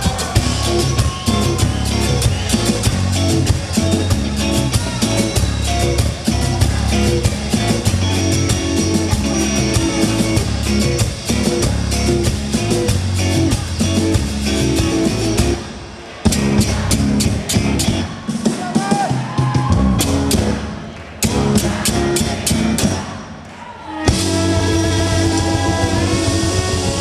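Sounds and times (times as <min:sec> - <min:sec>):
live rock band playing: 0:00.0 - 0:23.1, 0:24.1 - 0:27.0.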